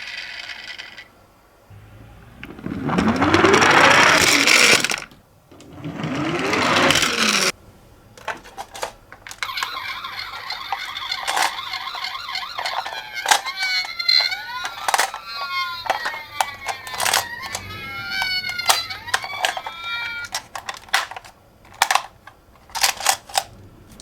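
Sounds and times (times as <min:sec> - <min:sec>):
toy cars rolling fast: 0:00.0 - 0:01.1, 0:01.7 - 0:07.6, 0:08.2 - 0:24.0
toy sirens wailing: 0:01.7 - 0:07.5, 0:08.2 - 0:23.6.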